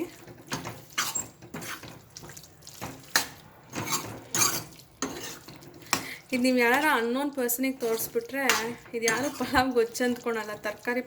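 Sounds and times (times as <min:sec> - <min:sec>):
spoon stirring thick paste: 0:00.0 - 0:11.0.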